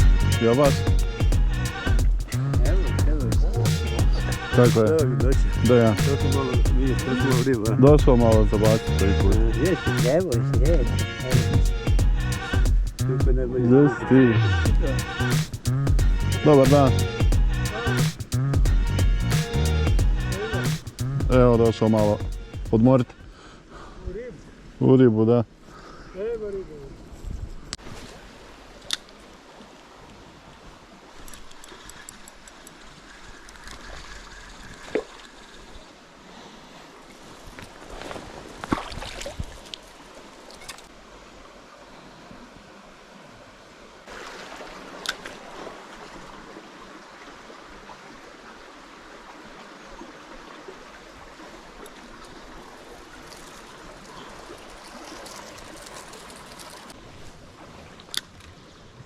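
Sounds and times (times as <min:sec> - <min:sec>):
stream water rushing: 0:00.0 - 0:24.8, 0:27.8 - 0:59.0.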